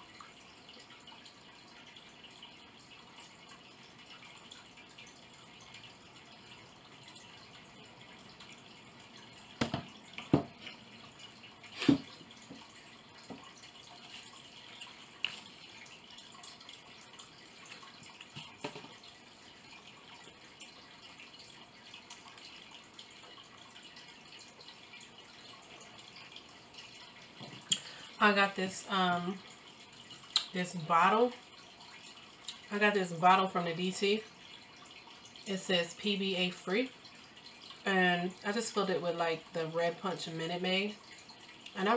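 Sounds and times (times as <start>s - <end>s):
faint steady hiss: 0.0s - 41.9s.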